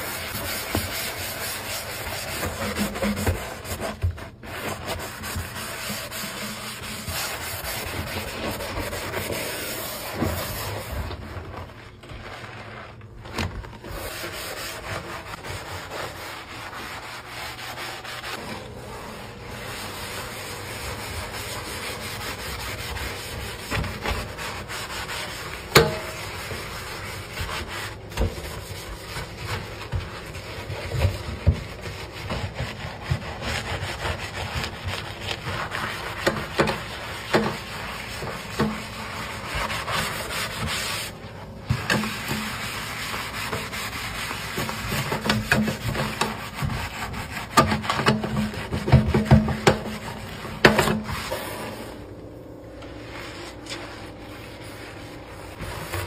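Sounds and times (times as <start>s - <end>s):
sponge scrubbing steel sink: 0.0s - 56.0s.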